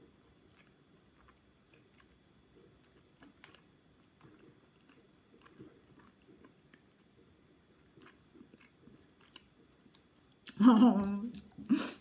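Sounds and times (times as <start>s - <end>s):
chewing food: 0.0s - 12.0s.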